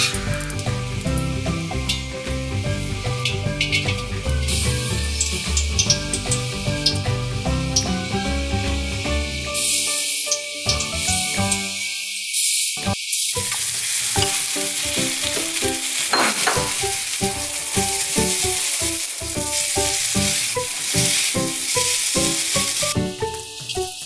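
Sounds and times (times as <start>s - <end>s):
noodles sizzling in a wok: 0.0s - 24.0s.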